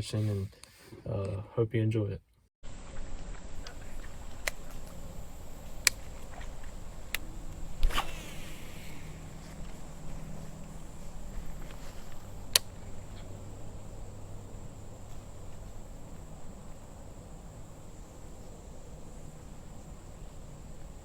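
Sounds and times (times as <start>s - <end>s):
thin high-pitched hum: 2.6s - 21.0s.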